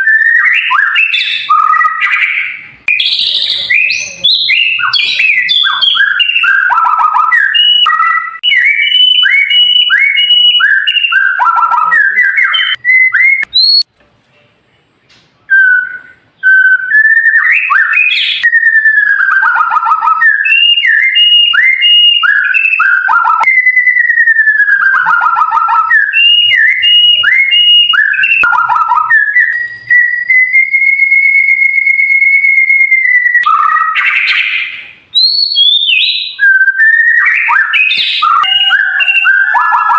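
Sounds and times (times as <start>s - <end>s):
bird whistled song: 0.0s - 13.9s, 15.5s - 39.9s
long steady bird whistle: 0.0s - 13.9s, 15.5s - 39.9s.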